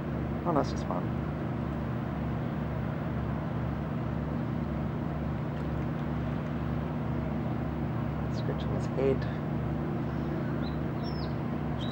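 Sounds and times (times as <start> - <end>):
low engine hum: 0.0 - 11.9.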